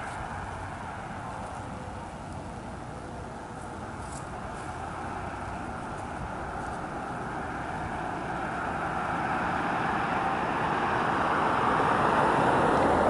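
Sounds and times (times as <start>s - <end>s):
road vehicle approaching: 0.0s - 13.0s.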